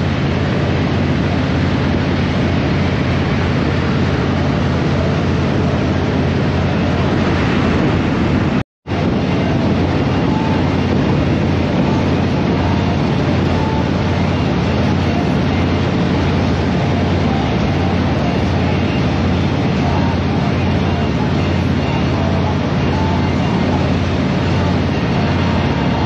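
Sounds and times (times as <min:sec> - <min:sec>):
motorcycle engine drone: 0:00.0 - 0:26.0
wind rush on microphone: 0:00.0 - 0:26.0.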